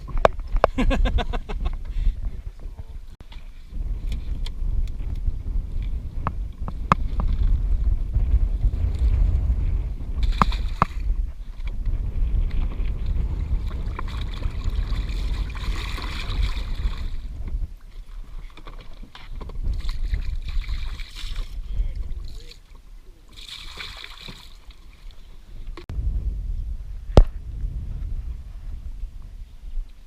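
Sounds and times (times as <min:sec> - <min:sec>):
wind buffeting microphone: 0:00.0 - 0:23.1, 0:25.3 - 0:30.0.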